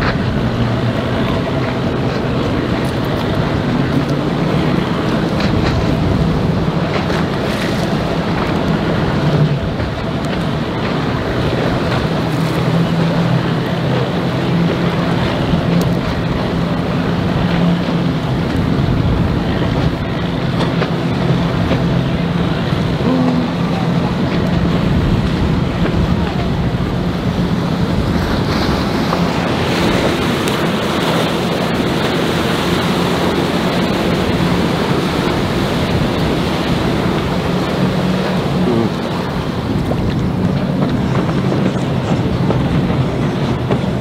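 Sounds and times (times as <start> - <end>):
outboard motor running: 0.0 - 44.0
water noise: 0.0 - 44.0
wind buffeting microphone: 0.0 - 44.0.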